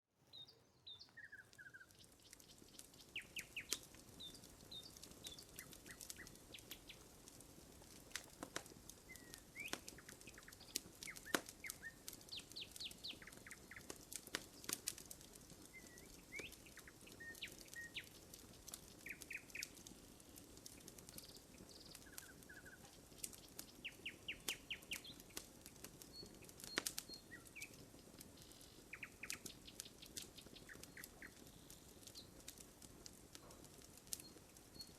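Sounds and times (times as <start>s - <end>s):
small birds chirping: 0.2s - 34.9s
campfire crackling and popping: 0.3s - 34.9s.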